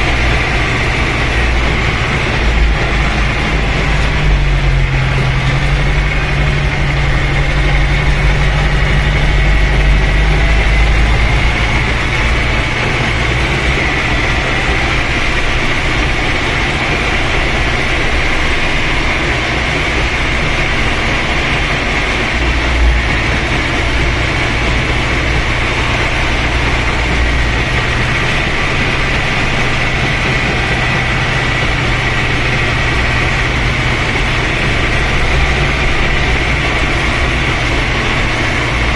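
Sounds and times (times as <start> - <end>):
high whine: 0.0 - 38.9
tractor diesel engine running: 0.0 - 38.9.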